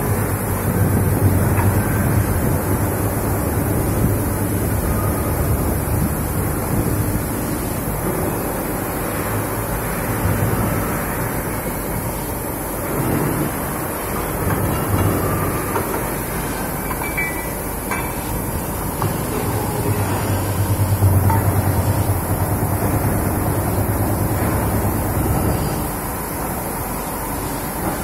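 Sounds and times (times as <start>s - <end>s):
industrial machinery drone: 0.0s - 28.0s.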